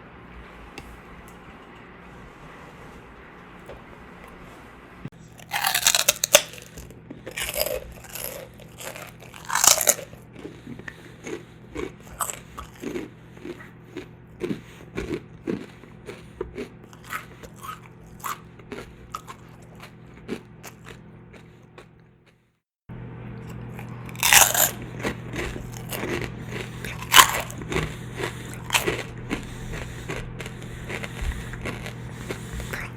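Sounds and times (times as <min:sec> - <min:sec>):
person chewing crunchy food: 0:05.1 - 0:22.4, 0:23.4 - 0:32.9.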